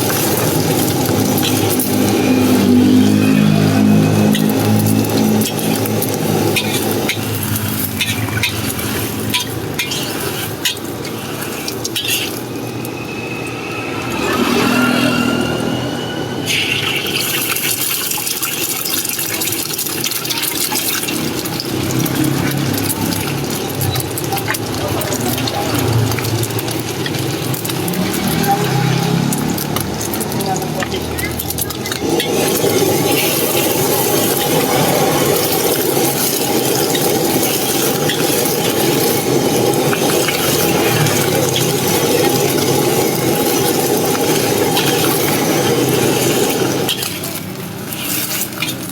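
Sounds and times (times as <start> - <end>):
food sizzling in hot oil: 0.0 - 48.9.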